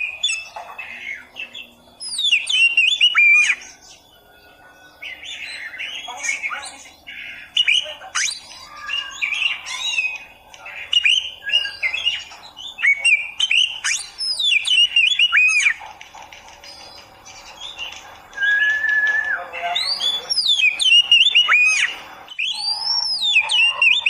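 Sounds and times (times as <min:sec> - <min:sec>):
bird singing whistles and chirps: 0:00.0 - 0:15.8, 0:17.4 - 0:24.0.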